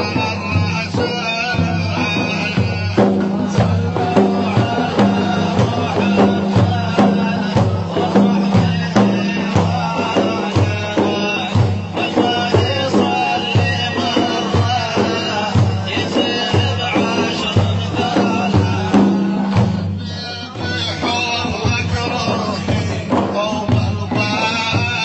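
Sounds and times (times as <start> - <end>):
percussion beat: 0.0 - 25.0.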